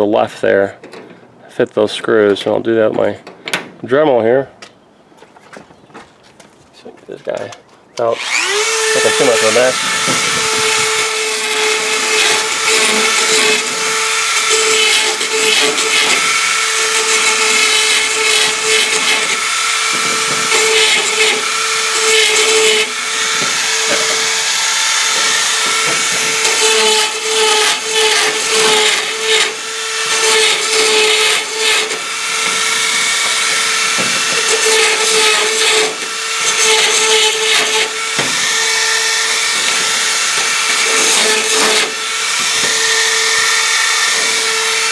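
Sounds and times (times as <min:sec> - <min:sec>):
rotary tool grinding: 0:08.0 - 0:44.9.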